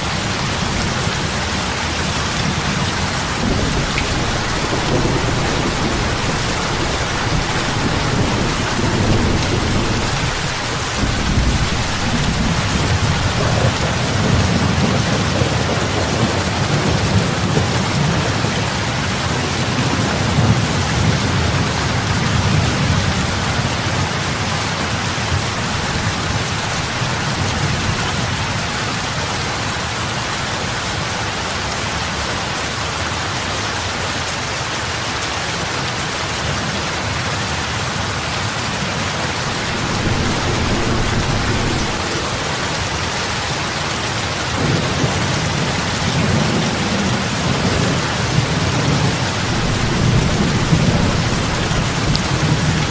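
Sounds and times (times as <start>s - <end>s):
heavy rain on lake water: 0.0s - 52.9s.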